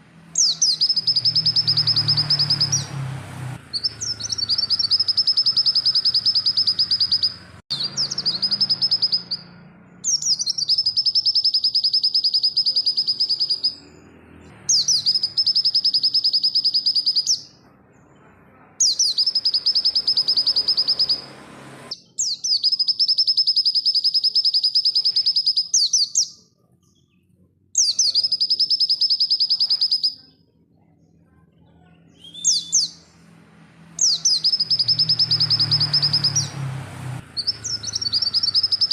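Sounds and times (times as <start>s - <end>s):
bird song of rapid trilled notes: 0.0s - 38.9s.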